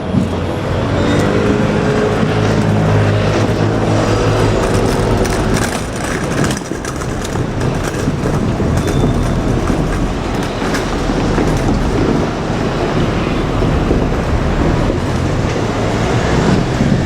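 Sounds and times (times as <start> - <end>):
electric train running past: 0.0 - 17.0
wheel-on-rail clicks: 0.0 - 17.0.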